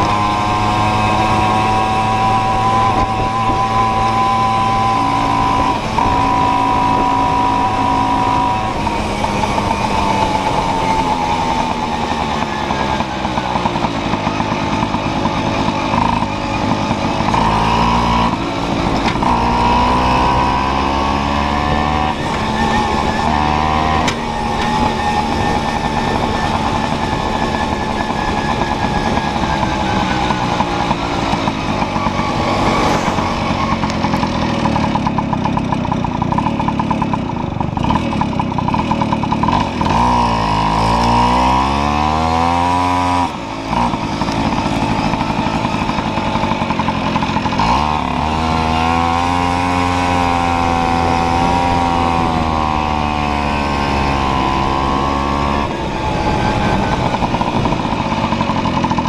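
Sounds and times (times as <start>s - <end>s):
moped engine running: 0.0s - 59.0s.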